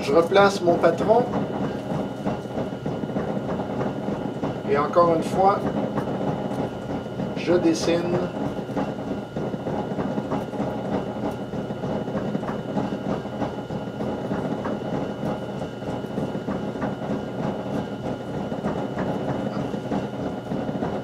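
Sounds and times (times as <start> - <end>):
wood lathe motor humming: 0.0 - 21.0.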